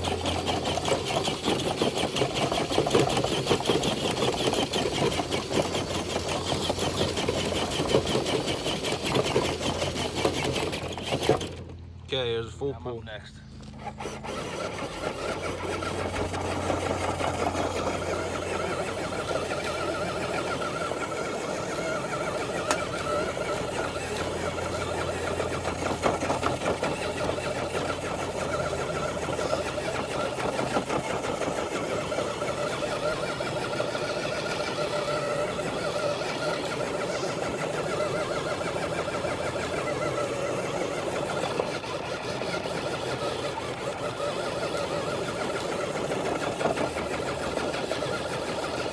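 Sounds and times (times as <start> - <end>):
electric motor whining: 0.0 - 12.1, 13.4 - 48.9.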